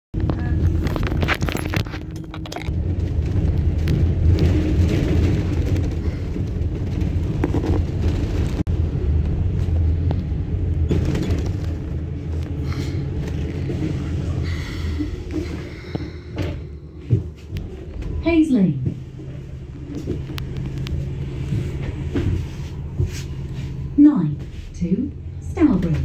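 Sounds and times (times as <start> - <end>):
bus engine and road drone: 0.1 - 26.0.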